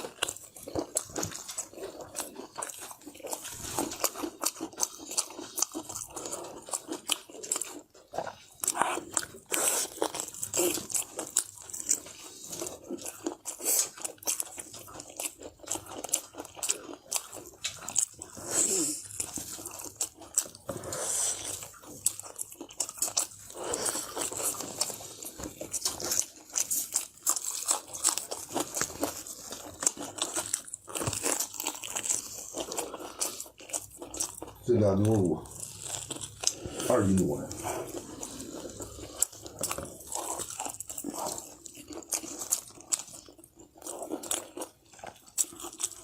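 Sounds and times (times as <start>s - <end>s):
person chewing crunchy food: 0.0s - 46.0s.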